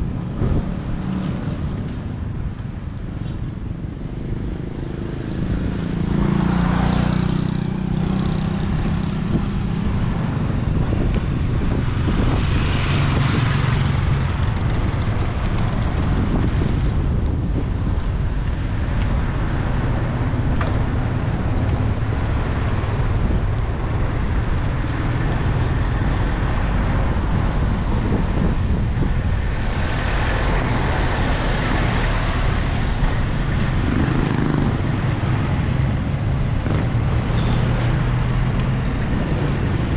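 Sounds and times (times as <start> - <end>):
steady low road rumble: 0.0 - 39.9
vehicles passing: 0.0 - 39.9.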